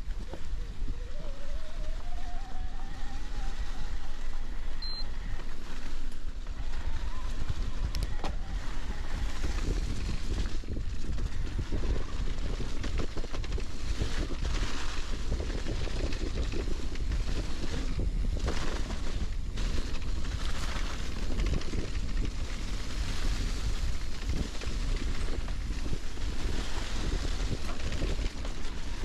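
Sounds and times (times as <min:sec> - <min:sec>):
bike tyres on dirt: 0:00.0 - 0:29.0
wind buffeting microphone: 0:00.0 - 0:29.0
bike rattling over bumps: 0:03.4 - 0:29.0.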